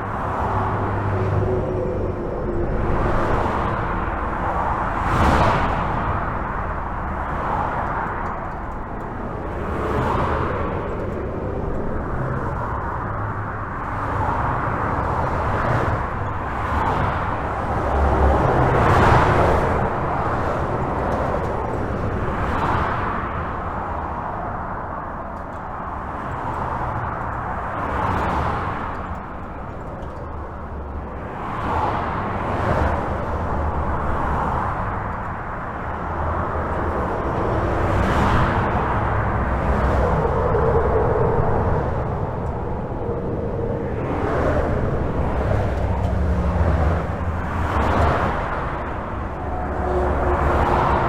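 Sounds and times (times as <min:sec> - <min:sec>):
highway traffic hiss and rumble: 0:00.0 - 0:51.0
vehicles passing: 0:00.0 - 0:51.0.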